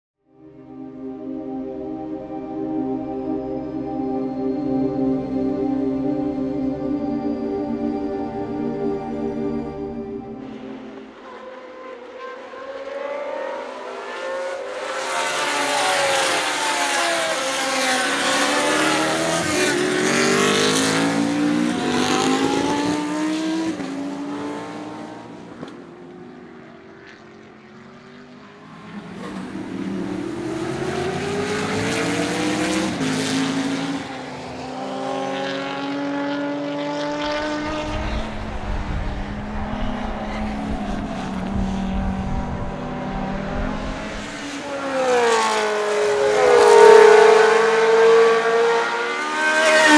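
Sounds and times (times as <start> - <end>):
racing car engines passing: 0.4 - 49.9.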